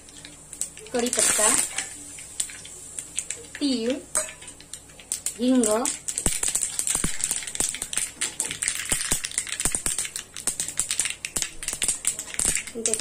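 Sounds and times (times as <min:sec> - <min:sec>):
seeds spluttering in hot oil: 0:00.0 - 0:13.0.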